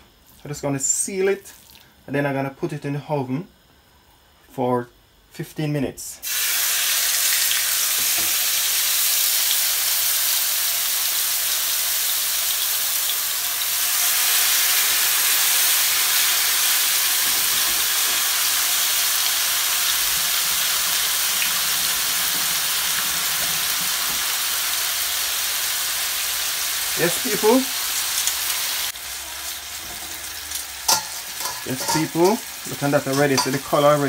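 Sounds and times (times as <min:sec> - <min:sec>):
steaks sizzling in a frying pan: 0:06.2 - 0:34.0.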